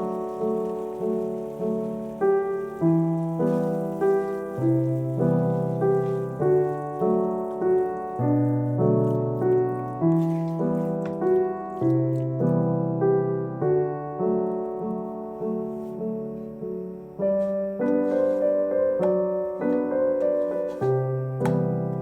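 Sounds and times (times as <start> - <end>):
gentle solo piano piece: 0.0 - 22.0.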